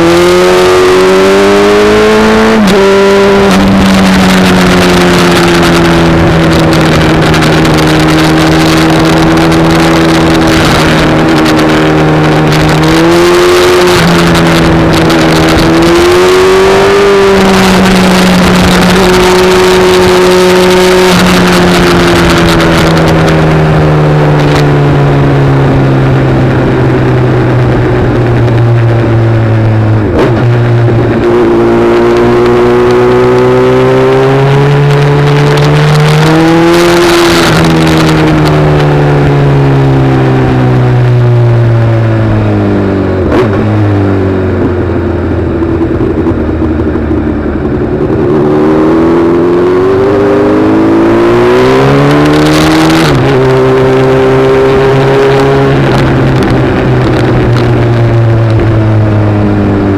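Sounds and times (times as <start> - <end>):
vehicle engine running: 1.3 - 33.5, 34.8 - 54.1, 54.8 - 59.9.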